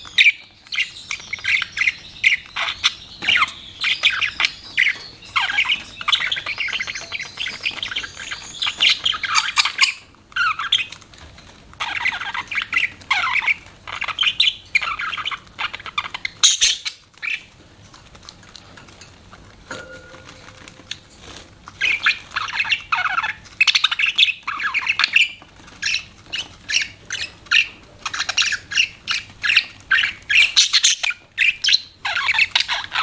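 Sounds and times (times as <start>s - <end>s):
budgerigars chirping and chattering: 0.0s - 17.7s, 19.7s - 33.0s.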